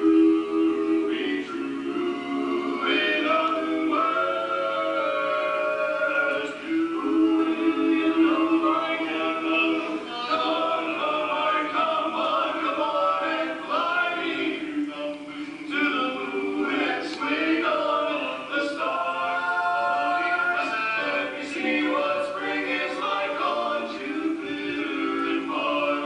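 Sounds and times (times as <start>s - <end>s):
male quartet singing in harmony: 0.0s - 26.0s.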